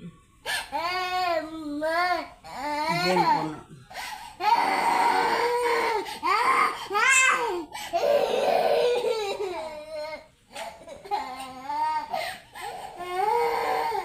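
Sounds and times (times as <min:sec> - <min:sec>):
baby crying: 0:00.4 - 0:14.0.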